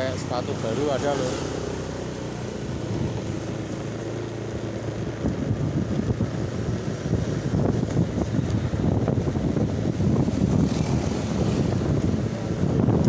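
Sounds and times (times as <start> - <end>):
motor scooter engine: 0.0 - 13.0
wind buffeting microphone: 2.2 - 13.0.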